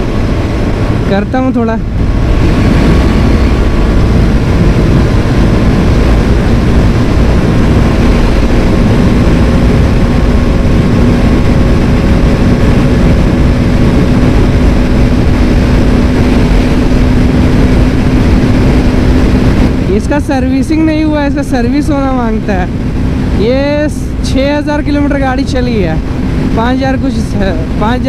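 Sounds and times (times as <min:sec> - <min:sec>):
motorcycle engine droning: 0:00.0 - 0:28.0
wind noise rushing: 0:00.0 - 0:28.0.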